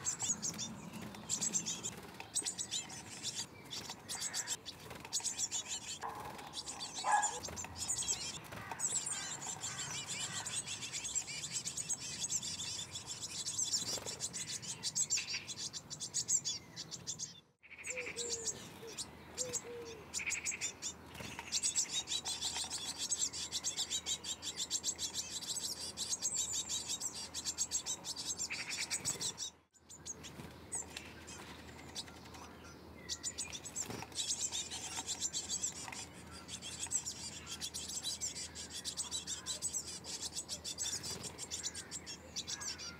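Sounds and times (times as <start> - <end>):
birds chirping rapidly: 0.0 - 42.9.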